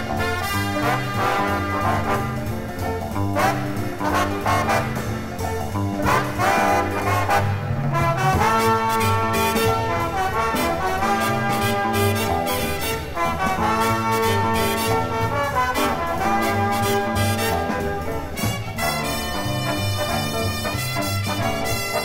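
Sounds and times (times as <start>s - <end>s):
brass jazz orchestra: 0.0s - 22.0s.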